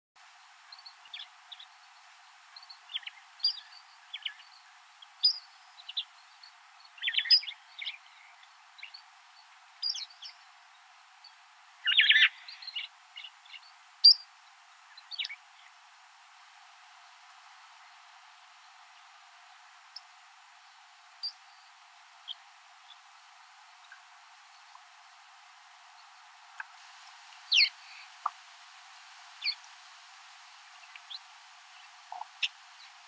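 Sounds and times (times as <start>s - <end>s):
wild birds chirping: 0.5s - 33.0s.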